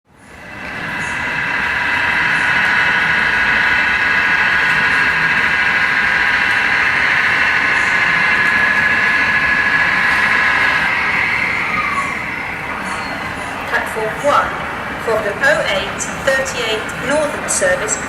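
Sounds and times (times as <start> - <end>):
model train running: 0.1 - 18.0.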